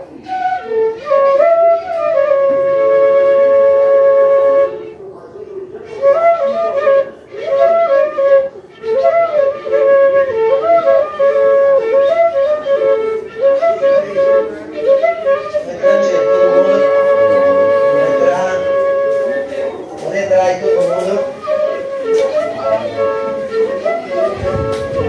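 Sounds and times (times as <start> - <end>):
cane fifes playing a melody: 0.0 - 25.0.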